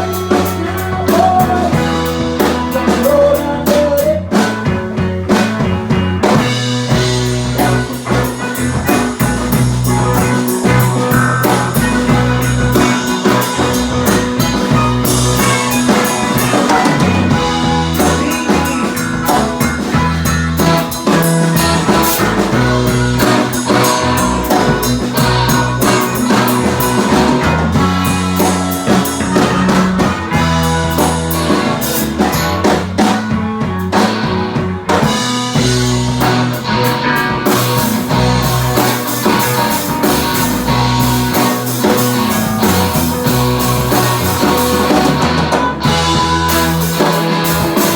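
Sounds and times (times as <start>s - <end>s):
bass line: 0.0s - 47.9s
drum kit beat: 0.0s - 47.9s
guitar: 0.0s - 47.9s.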